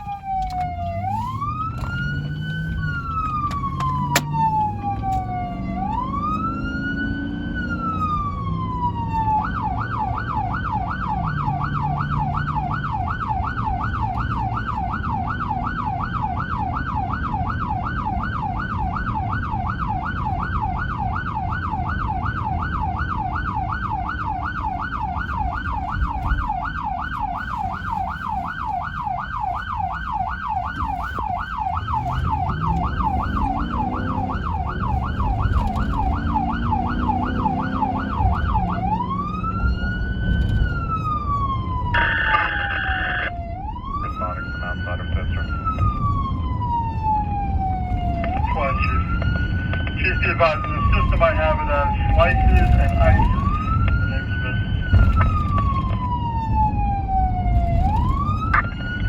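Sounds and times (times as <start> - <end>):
electronic siren wailing and yelping: 0.0 - 59.0.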